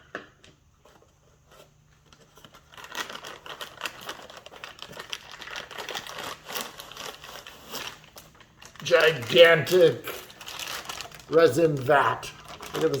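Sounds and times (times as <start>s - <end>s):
packaging crinkling and rustling: 0.8s - 13.0s.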